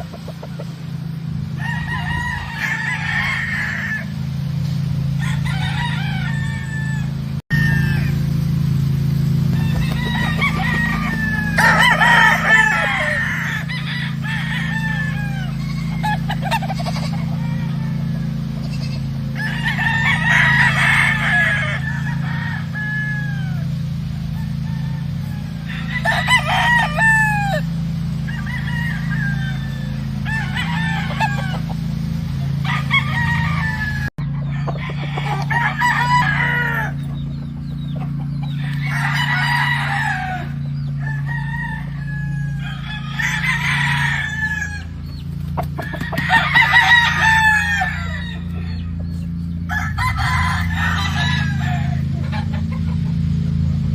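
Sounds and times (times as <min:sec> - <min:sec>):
chickens clucking: 0:00.0 - 0:08.2, 0:09.5 - 0:53.8
roosters crowing: 0:00.0 - 0:53.9
steady low hum: 0:00.0 - 0:53.9.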